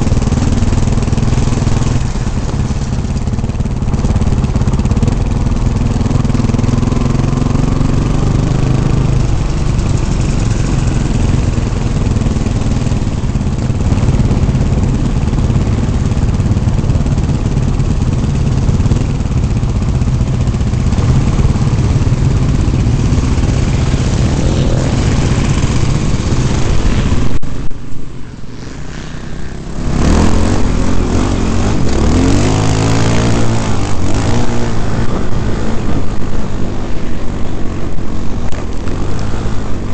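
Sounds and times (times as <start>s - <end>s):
off-road motorcycle engines revving: 0.0s - 39.9s.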